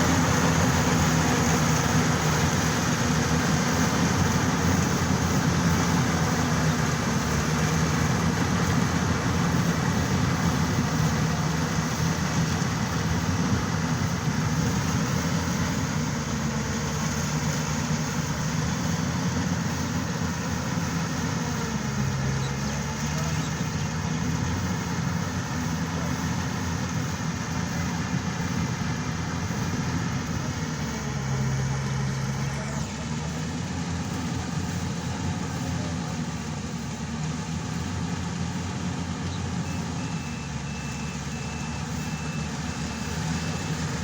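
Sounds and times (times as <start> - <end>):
combine harvester running: 0.0 - 44.0.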